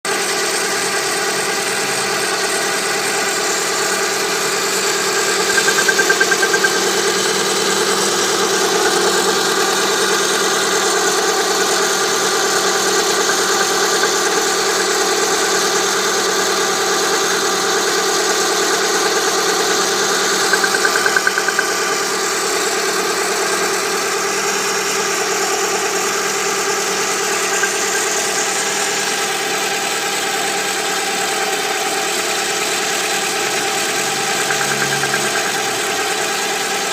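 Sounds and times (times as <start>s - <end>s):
car engine idling with knock: 0.1s - 36.9s.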